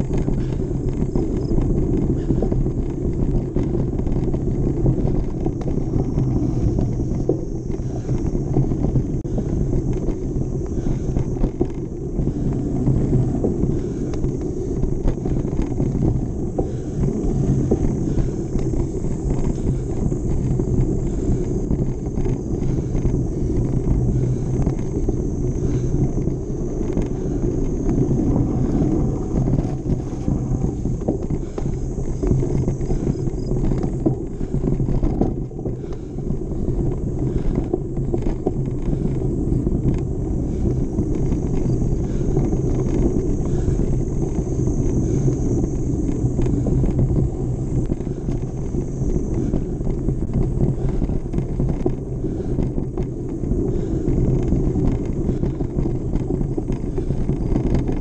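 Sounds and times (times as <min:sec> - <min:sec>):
bike rattles and clicks: 0:00.0 - 0:58.0
bike tyres rumbling on dirt: 0:00.0 - 0:58.0
wind rushing over microphone: 0:00.0 - 0:58.0.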